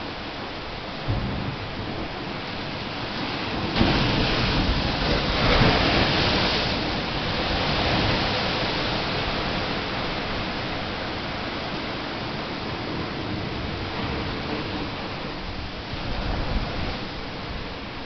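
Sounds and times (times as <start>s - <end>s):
surf crashing against a seawall: 0.1s - 18.0s.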